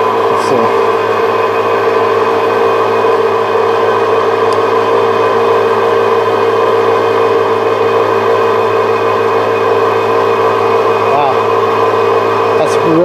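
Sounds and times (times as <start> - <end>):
lathe machine hum and whine: 0.0 - 13.0.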